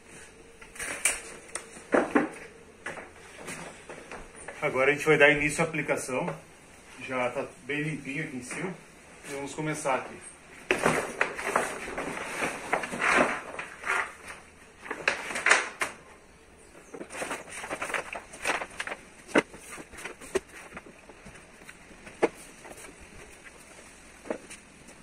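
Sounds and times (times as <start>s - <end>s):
vinyl film rustling and crinkling: 0.0s - 4.9s, 5.5s - 25.0s.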